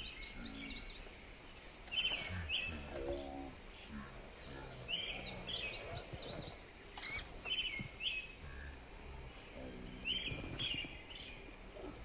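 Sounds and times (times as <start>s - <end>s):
outdoor background noise: 0.0s - 12.0s
small songbirds chirping: 0.0s - 12.0s.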